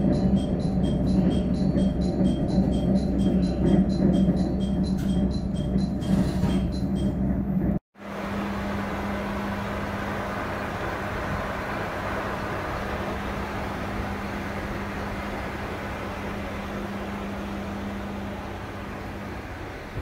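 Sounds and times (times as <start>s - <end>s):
diesel railcar engine rumble: 0.0s - 20.0s.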